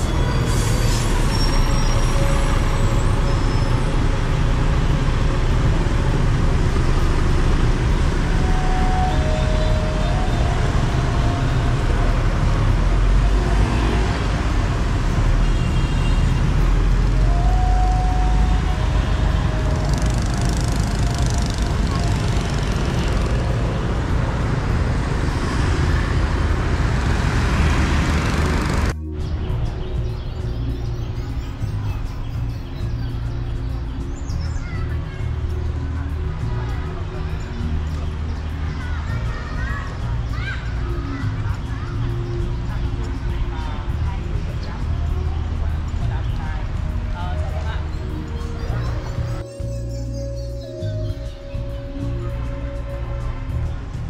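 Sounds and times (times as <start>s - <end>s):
bus engine passing: 0.0s - 54.0s
street traffic rumble: 0.0s - 54.0s.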